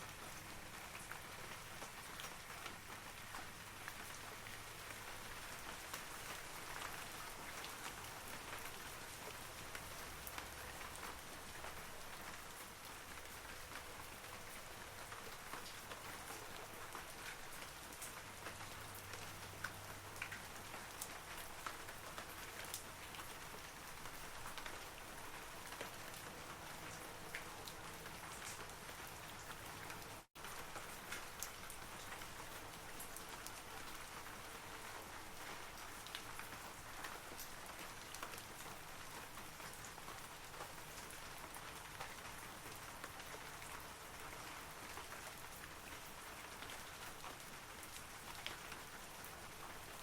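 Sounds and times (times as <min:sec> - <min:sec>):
rain falling on trees: 0:00.0 - 0:50.0.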